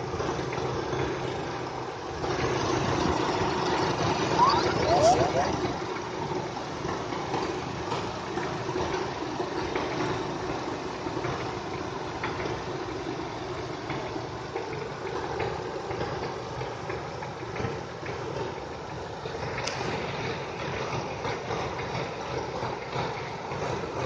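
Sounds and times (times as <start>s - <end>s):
car engine idling: 0.0s - 24.0s
engine knocking: 0.0s - 24.0s.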